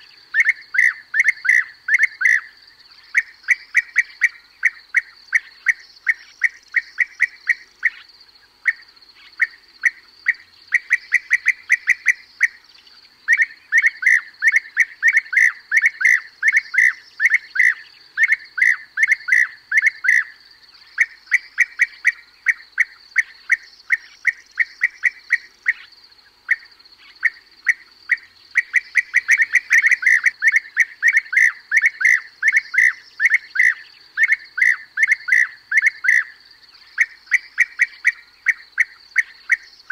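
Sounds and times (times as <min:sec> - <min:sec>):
bee-eaters calling: 0:00.0 - 0:39.9
faint high-pitched hiss: 0:00.0 - 0:39.9.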